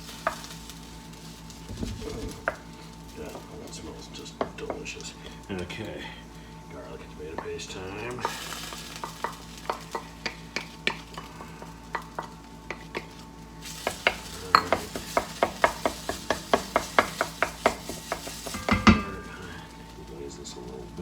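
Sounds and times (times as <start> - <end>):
food sizzling in pan: 0.0 - 21.0.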